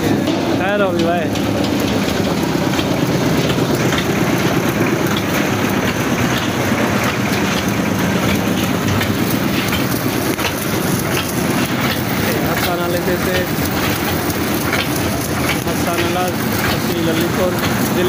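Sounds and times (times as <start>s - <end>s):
concrete mixer engine running: 0.0s - 18.0s
mechanical rattle: 0.1s - 18.0s.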